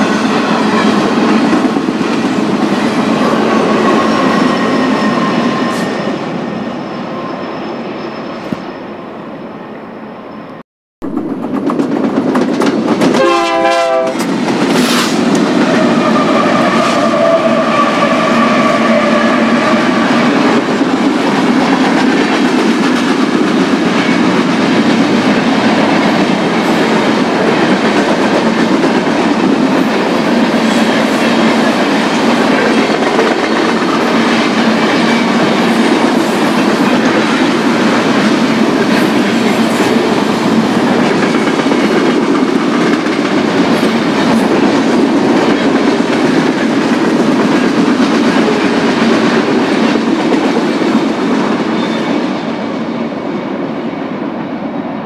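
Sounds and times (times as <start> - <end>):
freight train rumbling past: 0.0 - 10.2, 11.0 - 55.0.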